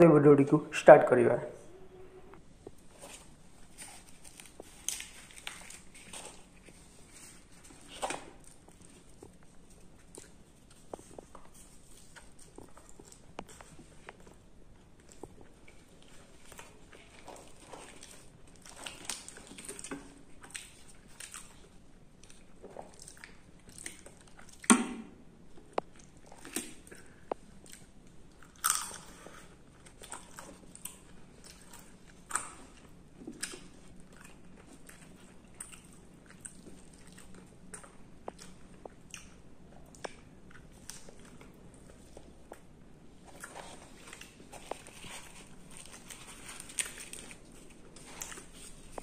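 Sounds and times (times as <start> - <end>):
biting and chewing: 2.6 - 24.9, 25.5 - 49.0
crackles and sharp snaps: 7.8 - 49.0.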